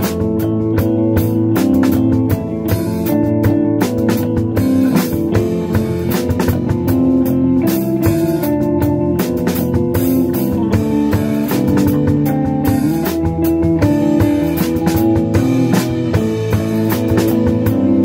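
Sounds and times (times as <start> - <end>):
bass guitar: 0.0 - 18.0
drums and cymbals: 0.0 - 18.0
electric guitar: 0.0 - 18.0.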